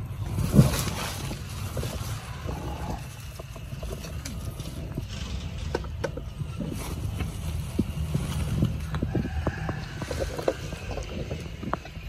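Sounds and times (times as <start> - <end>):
low wind rumble on microphone: 0.0 - 12.0
stems and leaves clicking: 0.0 - 12.0
weeds and grass rustling: 0.0 - 12.0.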